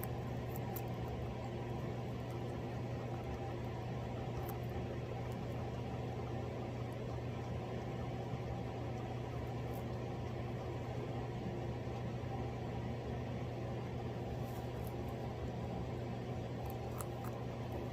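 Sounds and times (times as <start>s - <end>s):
steady low hum with hiss: 0.0s - 17.9s.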